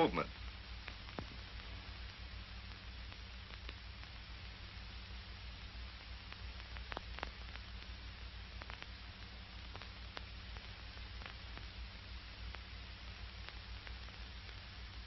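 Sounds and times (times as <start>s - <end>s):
faint crackles and pops: 0.0s - 15.0s
film soundtrack hiss: 0.0s - 15.0s.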